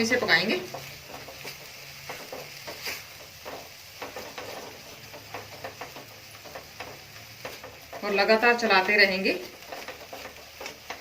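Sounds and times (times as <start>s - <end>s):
paste sizzling in hot oil: 0.0s - 11.0s
spatula scraping pan: 0.0s - 11.0s.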